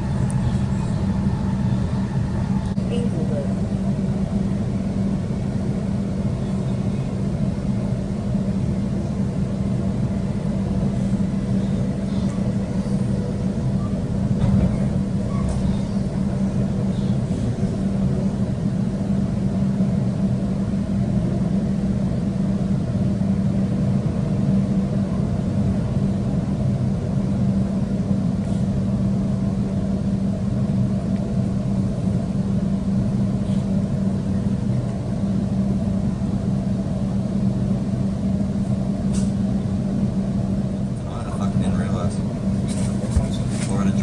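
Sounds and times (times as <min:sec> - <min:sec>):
train running rumble and hum: 0:00.0 - 0:44.0.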